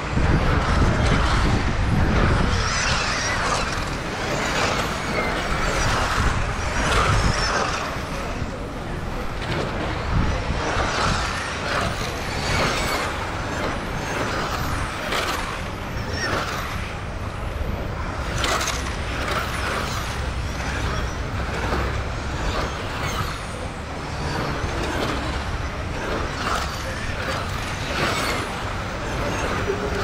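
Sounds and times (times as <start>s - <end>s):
rc cars whining past: 0.0s - 30.0s.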